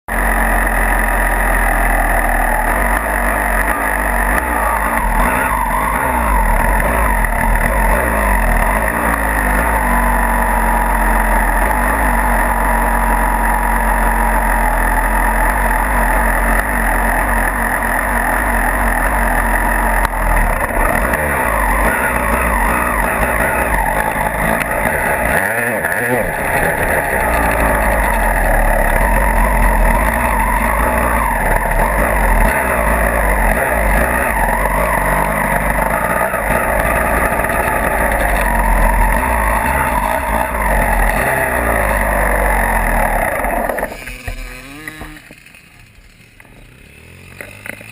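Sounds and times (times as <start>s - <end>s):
dirt bike engine revving: 0.1s - 47.9s.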